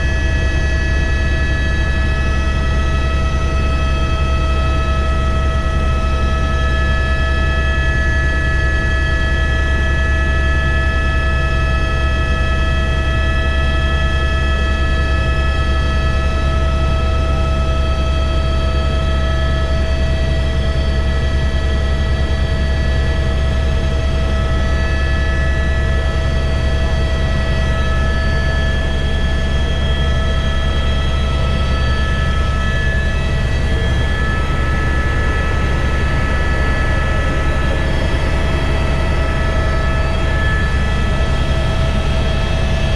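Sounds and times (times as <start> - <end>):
helicopter rotor drone: 0.0 - 42.9
turbine whine: 0.0 - 42.9.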